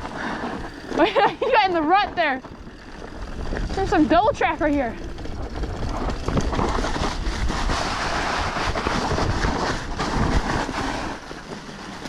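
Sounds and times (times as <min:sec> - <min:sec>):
bike knocks and rattles: 0:00.0 - 0:12.0
bike tyres rumbling on dirt: 0:00.0 - 0:12.0
wind buffeting microphone: 0:00.0 - 0:12.0.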